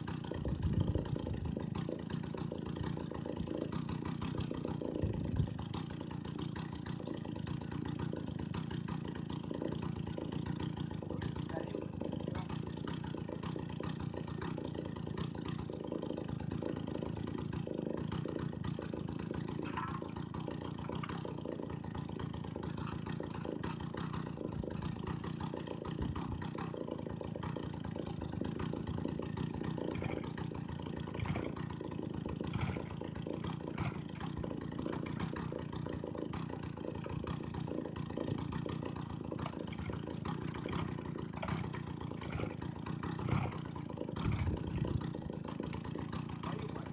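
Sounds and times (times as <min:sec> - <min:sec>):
chainsaw engine running: 0:00.0 - 0:46.9.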